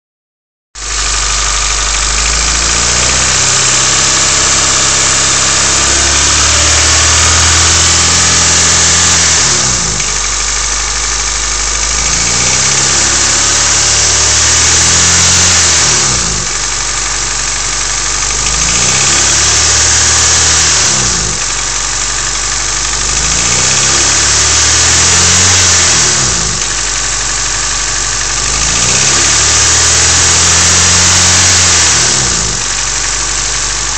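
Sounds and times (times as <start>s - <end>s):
car engine revving: 0.8s - 33.9s
engine knocking or ticking: 0.8s - 33.9s.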